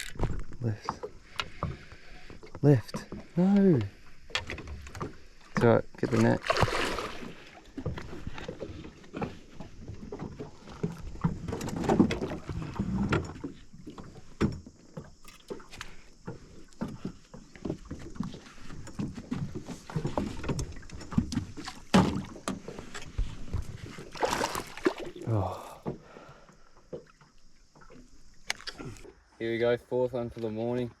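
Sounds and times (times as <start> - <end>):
knocks and clatter in aluminium boat: 0.0 - 28.7.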